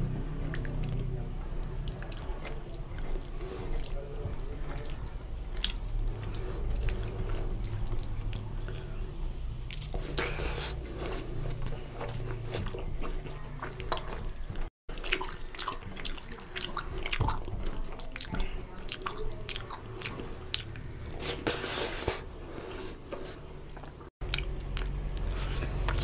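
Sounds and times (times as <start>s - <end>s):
hand mixing wet food squishing: 0.0s - 26.0s.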